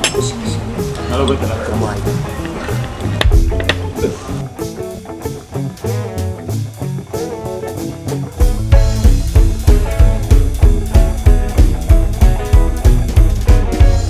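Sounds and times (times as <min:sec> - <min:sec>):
guitar-led rock music: 0:00.0 - 0:14.0
steady drum beat: 0:00.0 - 0:14.0.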